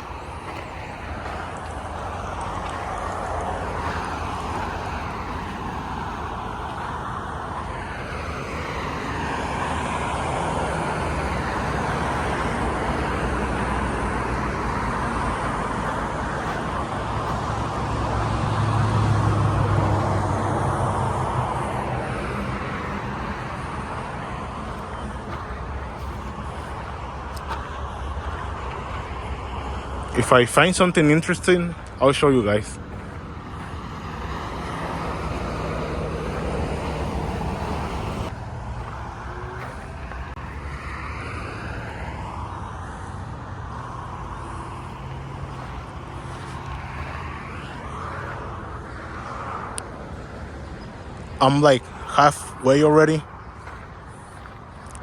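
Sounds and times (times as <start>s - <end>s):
heavy vehicle engine drone: 0.0s - 55.0s
road traffic passing: 0.0s - 55.0s.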